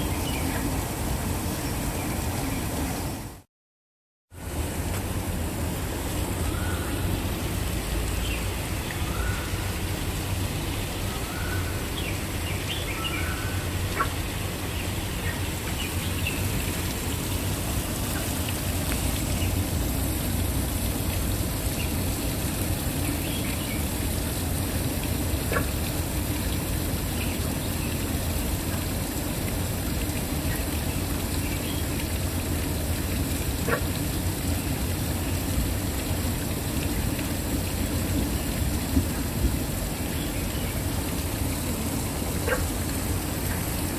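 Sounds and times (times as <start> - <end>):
waterfall rushing: 4.4 - 43.9.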